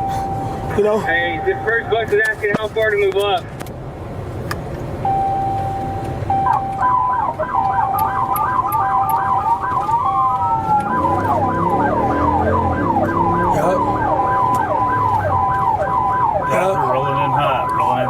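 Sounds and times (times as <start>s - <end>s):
police siren yelping: 0.0s - 1.9s, 5.1s - 18.0s.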